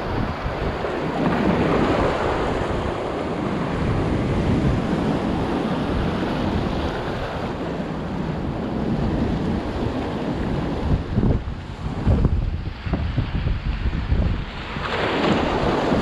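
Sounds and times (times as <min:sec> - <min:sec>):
waves breaking against rocks: 0:00.0 - 0:16.0
wind rumbling on microphone: 0:00.0 - 0:16.0.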